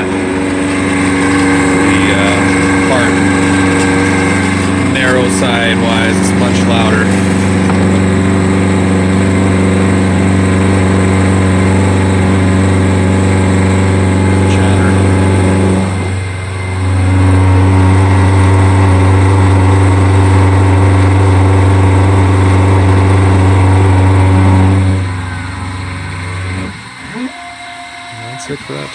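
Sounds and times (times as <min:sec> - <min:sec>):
milling machine cutting with chatter: 0:00.0 - 0:28.9.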